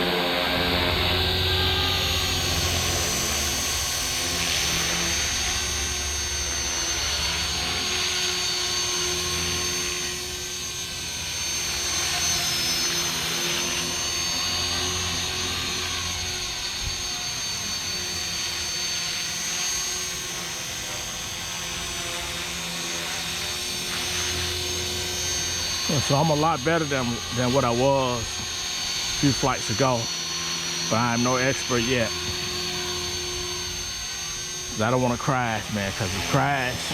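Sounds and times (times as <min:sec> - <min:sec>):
model helicopter rotor whine: 0:00.0 - 0:36.9.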